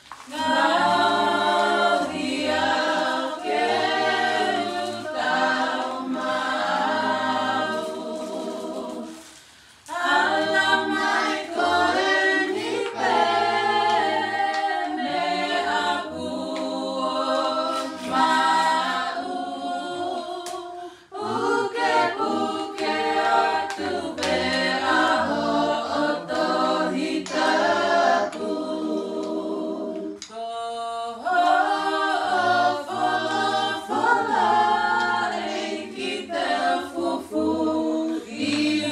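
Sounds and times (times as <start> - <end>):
group singing in harmony: 0.0 - 38.9.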